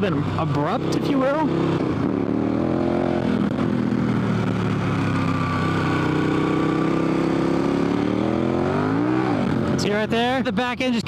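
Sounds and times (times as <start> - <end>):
motorcycle engine under throttle: 0.0 - 10.1.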